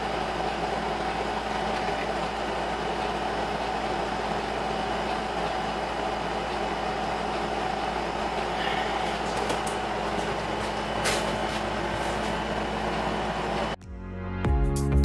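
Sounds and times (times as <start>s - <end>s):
machine humming and hissing: 0.0s - 13.8s.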